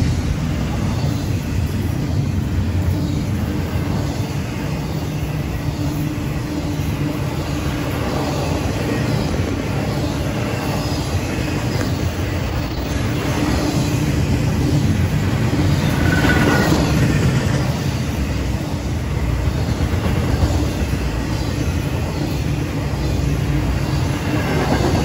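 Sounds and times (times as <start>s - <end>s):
steel wheels on rail: 0.0s - 25.0s.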